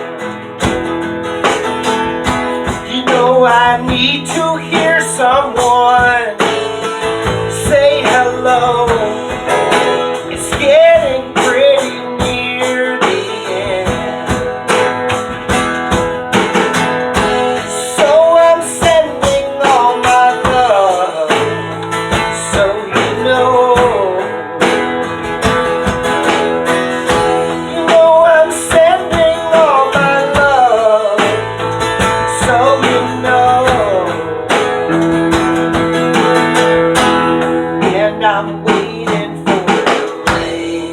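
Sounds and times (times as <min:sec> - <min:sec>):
rock band playing folk-rock: 0:00.0 - 0:40.9.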